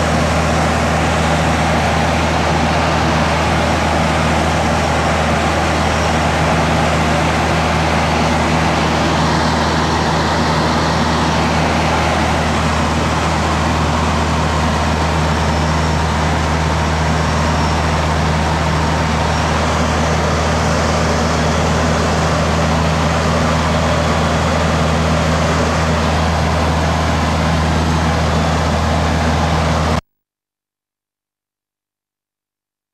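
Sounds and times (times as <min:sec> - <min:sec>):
aircraft engine and propeller droning: 0:00.0 - 0:30.0
rush of air over cabin: 0:00.0 - 0:30.0.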